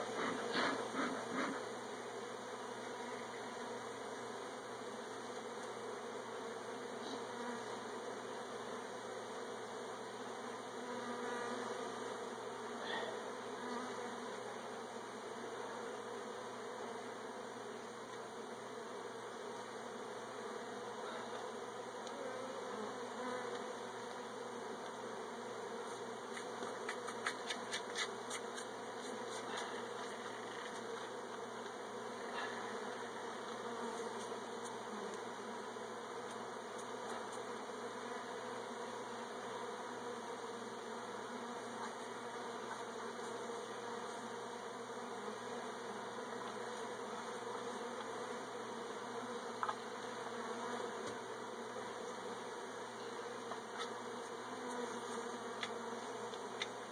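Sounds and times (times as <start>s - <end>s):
honey bees buzzing: 0.0s - 56.9s.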